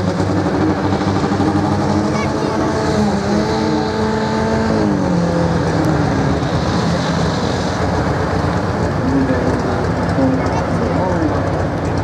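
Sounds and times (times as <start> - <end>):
loud vehicle engine running: 0.0 - 12.0.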